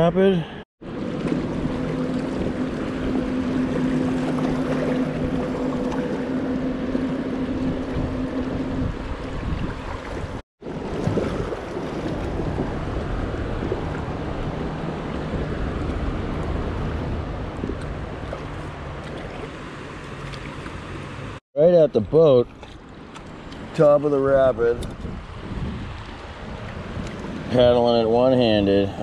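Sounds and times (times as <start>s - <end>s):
steady low hum: 0.4s - 23.8s
wind buffeting microphone: 1.0s - 19.5s, 22.8s - 29.0s.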